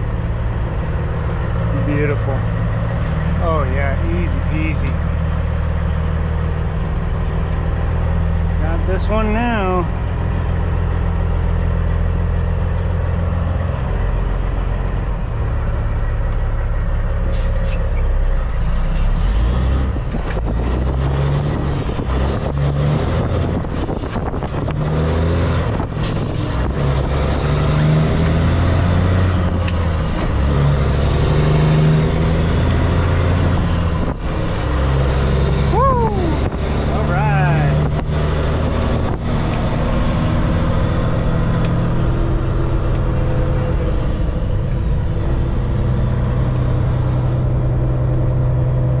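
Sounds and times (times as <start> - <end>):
diesel truck engine: 0.0 - 49.0.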